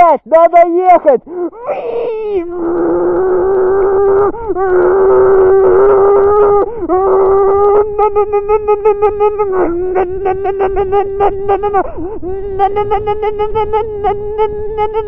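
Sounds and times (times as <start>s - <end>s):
man imitating motorcycle engine: 1.2s - 15.0s.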